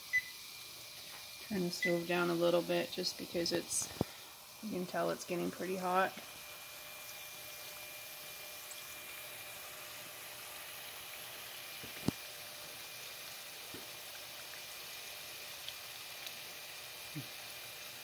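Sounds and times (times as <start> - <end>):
batter sizzling in hot oil: 0.0 - 18.0.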